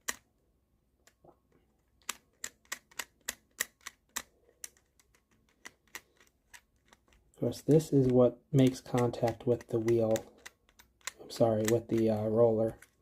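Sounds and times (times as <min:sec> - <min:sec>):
screwdriver scratching plastic roller: 0:02.3 - 0:13.0.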